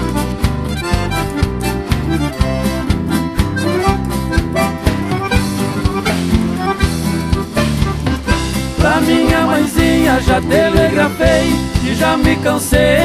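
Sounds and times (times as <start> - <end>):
accordion melody: 0.0 - 13.0
bass and drum beat: 0.0 - 13.0.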